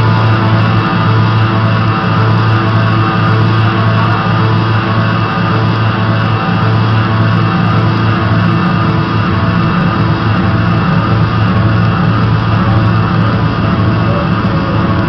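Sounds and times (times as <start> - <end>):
loud dense music: 0.0 - 15.0.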